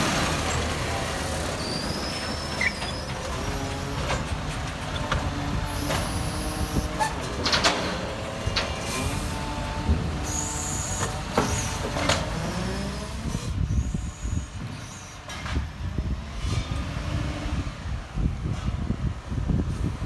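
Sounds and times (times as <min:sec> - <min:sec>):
garbage truck engine rumbling: 0:00.0 - 0:20.0.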